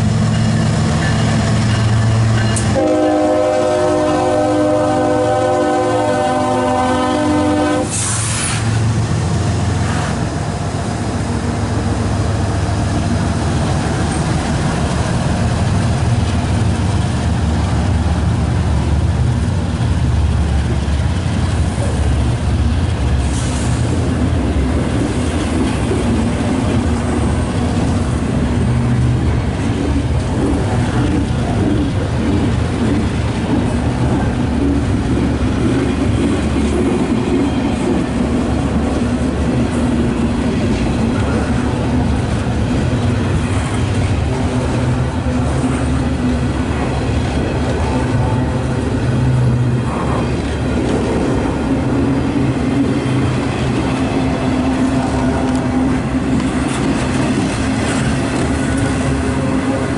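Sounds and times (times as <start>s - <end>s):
diesel locomotives passing: 0.0s - 59.9s
train wheels rumbling on rail: 0.0s - 59.9s.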